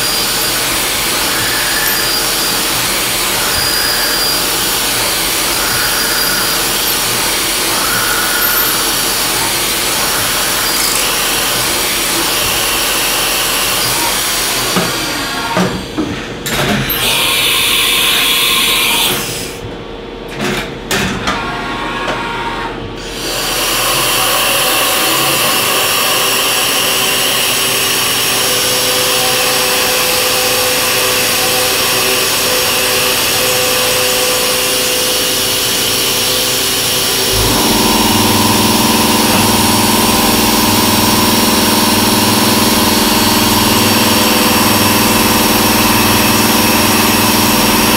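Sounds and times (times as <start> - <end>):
high spindle whine: 0.0 - 16.0, 23.1 - 47.9
milling machine cutting metal: 0.0 - 16.0, 23.0 - 47.9.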